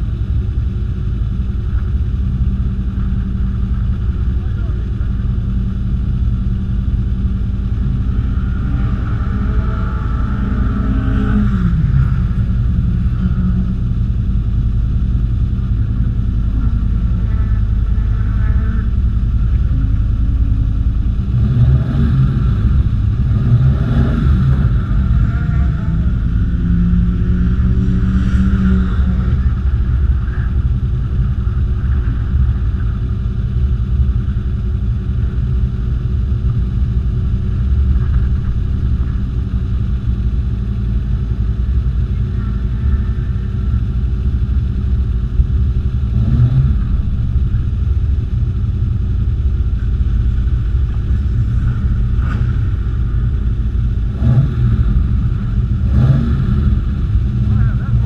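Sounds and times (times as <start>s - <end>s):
race car engine idling and revving: 0.0s - 58.0s.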